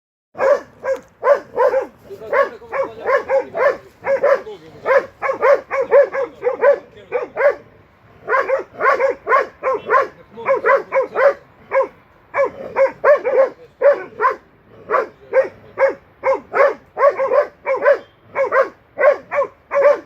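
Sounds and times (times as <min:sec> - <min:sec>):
dog barking: 0:00.4 - 0:20.0.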